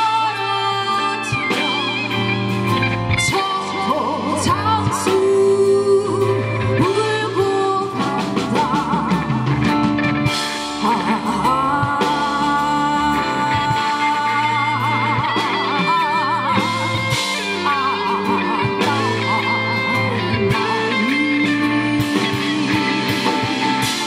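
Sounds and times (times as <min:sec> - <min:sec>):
bass guitar: 0:00.0 - 0:24.0
drum kit: 0:00.0 - 0:24.0
woman singing into microphone: 0:00.0 - 0:24.0.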